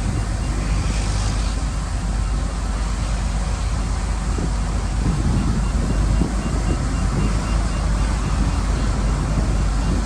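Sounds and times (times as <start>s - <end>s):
wind noise on microphone: 0.0s - 2.1s, 3.7s - 10.0s
bulldozer diesel engine rumbling: 0.0s - 10.0s.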